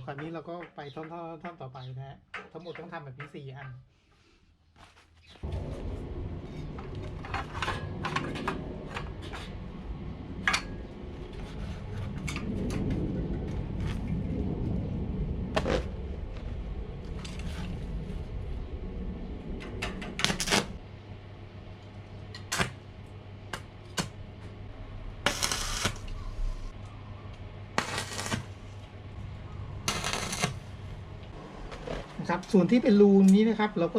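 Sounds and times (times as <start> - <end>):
steady low hum: 5.4 - 33.1.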